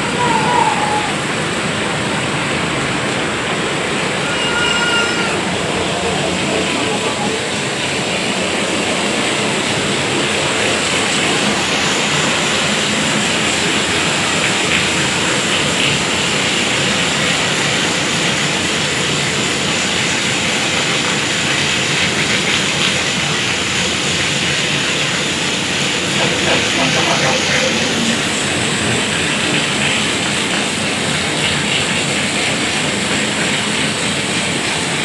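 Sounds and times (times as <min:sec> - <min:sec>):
heavy rain falling: 0:00.0 - 0:35.0
runoff splashing onto tiles: 0:00.0 - 0:35.0.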